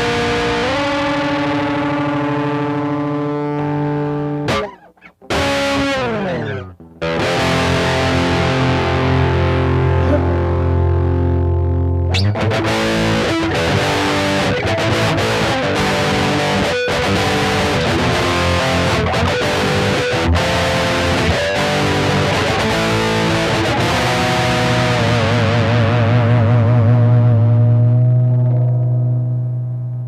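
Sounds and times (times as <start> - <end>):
distorted electric guitar solo: 0.0 - 30.0.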